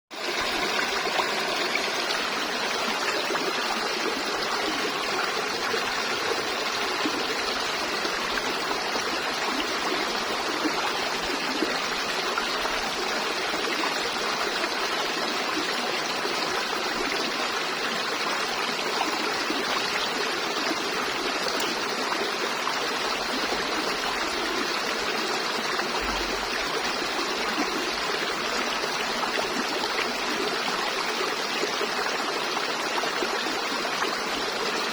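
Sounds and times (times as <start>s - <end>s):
river water babbling over stones: 0.1s - 34.9s.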